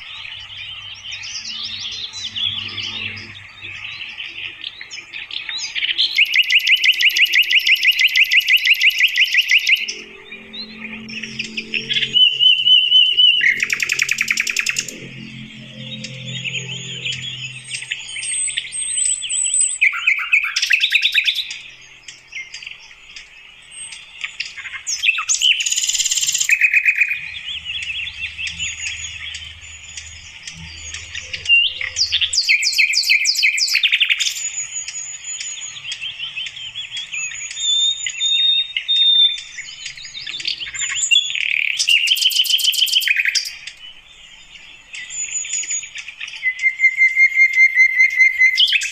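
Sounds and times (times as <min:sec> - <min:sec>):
flycatcher singing: 0:00.0 - 0:22.3, 0:24.9 - 0:46.0.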